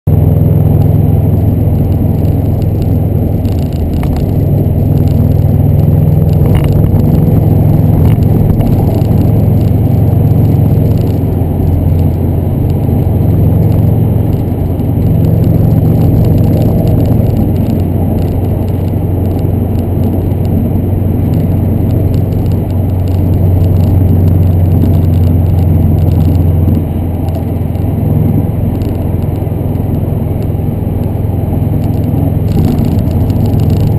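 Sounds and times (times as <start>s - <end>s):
car engine and exhaust droning: 0.1s - 33.9s.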